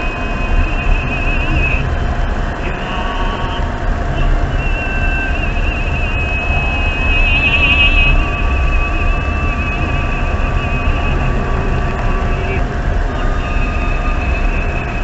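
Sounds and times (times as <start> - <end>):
thin high whine: 0.0 - 15.0
vehicle rumble on road: 0.0 - 15.0.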